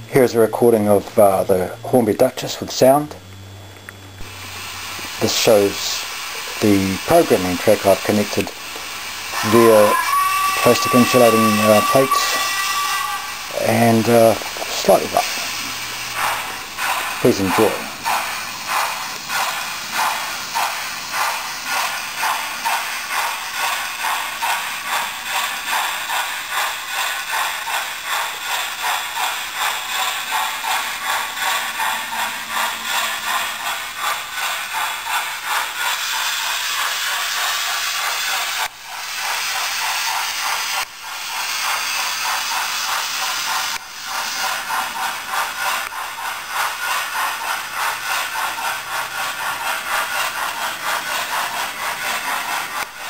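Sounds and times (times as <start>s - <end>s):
model train steam chuffs: 0.0s - 3.3s, 4.2s - 53.0s
steady steam hiss: 0.0s - 53.0s.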